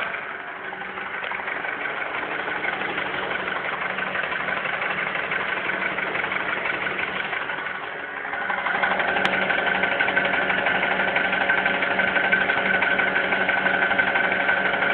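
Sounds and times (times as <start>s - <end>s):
car engine idling with a knock: 0.0s - 14.9s.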